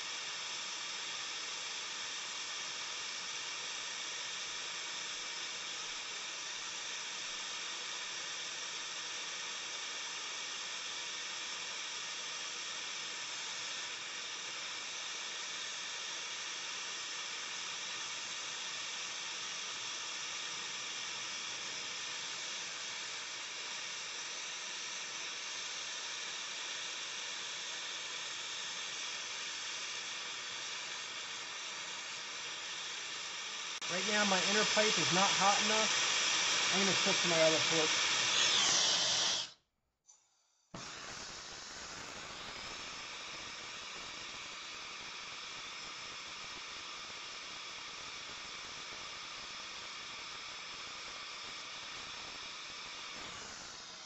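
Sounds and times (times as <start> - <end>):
torch flame hissing: 0.0 - 39.6, 40.8 - 54.0.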